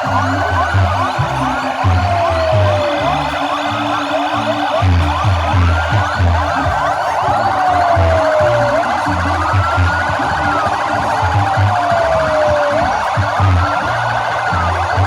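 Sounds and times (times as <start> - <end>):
fast pulsing siren: 0.0 - 15.0
wailing sirens: 0.0 - 15.0.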